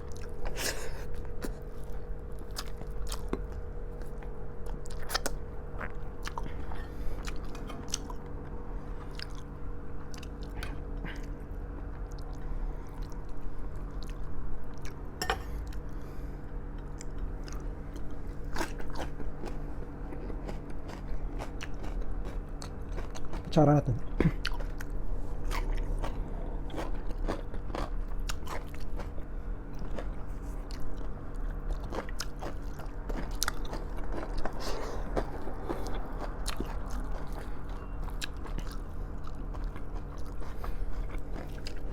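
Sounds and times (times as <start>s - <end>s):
person chewing and biting food: 0.0s - 15.9s, 16.7s - 41.9s
steady low hum: 0.0s - 41.9s.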